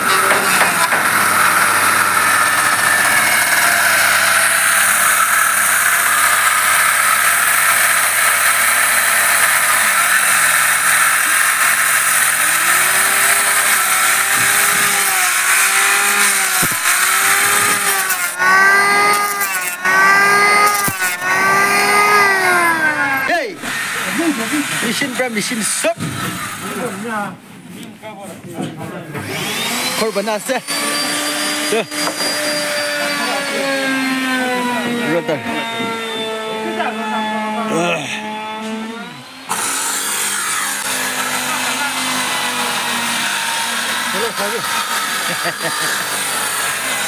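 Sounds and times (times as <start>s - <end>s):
power tool cutting timber: 0.0s - 27.3s, 29.1s - 47.0s.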